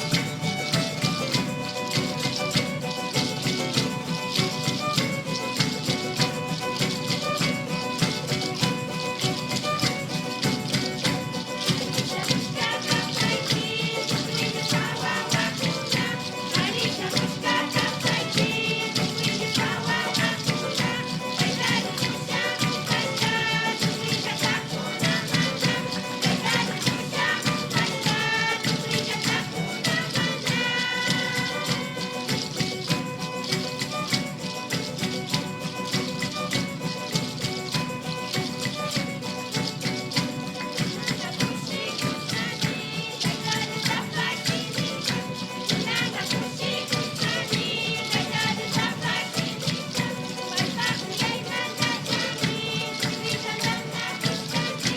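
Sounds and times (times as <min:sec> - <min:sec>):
hand percussion fast beat: 0:00.0 - 0:54.9.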